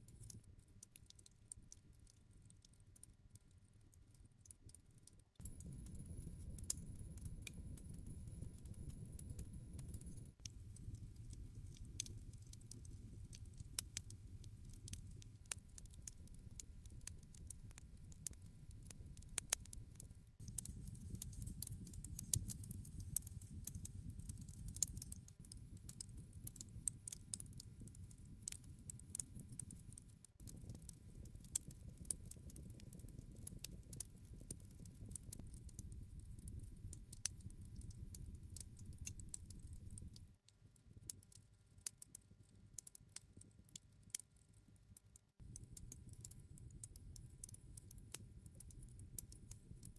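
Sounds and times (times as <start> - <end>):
campfire crackling and popping: 4.6 - 41.2, 45.5 - 49.8
low rumble of burning: 5.4 - 41.2, 45.4 - 49.9.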